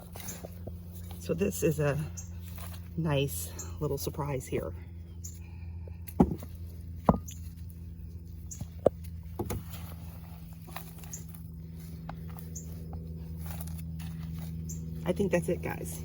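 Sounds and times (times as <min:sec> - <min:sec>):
hands rustling through soil: 0:00.0 - 0:04.6, 0:06.5 - 0:16.0
steady low hum: 0:00.0 - 0:16.0.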